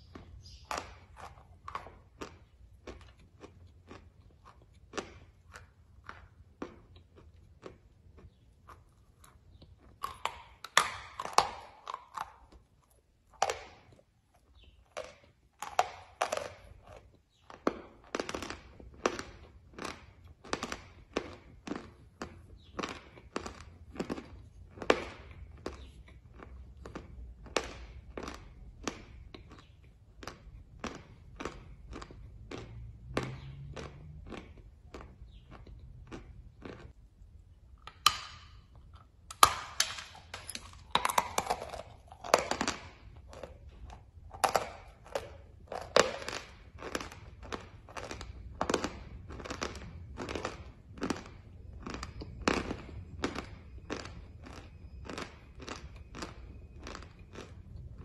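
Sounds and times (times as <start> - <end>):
chalk crunching while chewing: 0.0 - 58.0.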